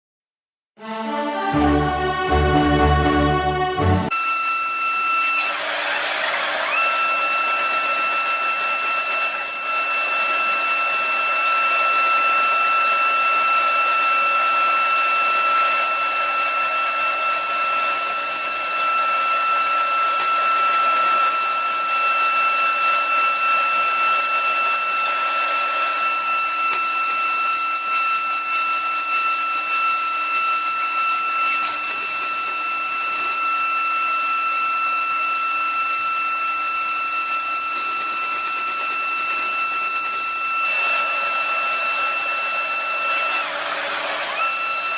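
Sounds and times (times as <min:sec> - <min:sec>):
machine whining over a hiss: 0:04.2 - 0:44.9.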